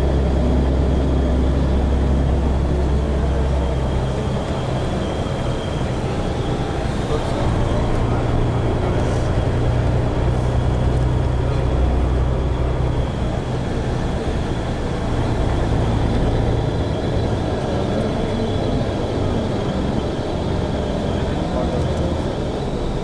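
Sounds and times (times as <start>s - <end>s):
coach engine drone: 0.0s - 23.0s
road noise: 0.0s - 23.0s.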